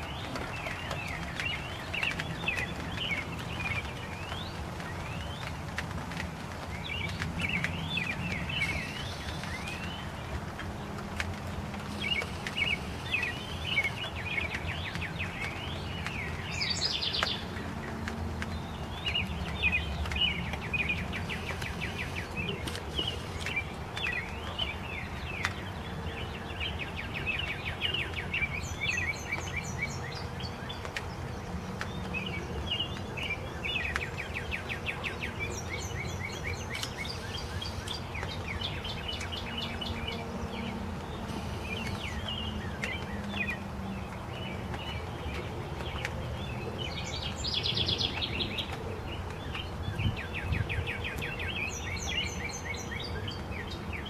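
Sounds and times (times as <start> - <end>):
light rain falling: 0.0 - 54.0
small birds chirping: 0.0 - 54.0.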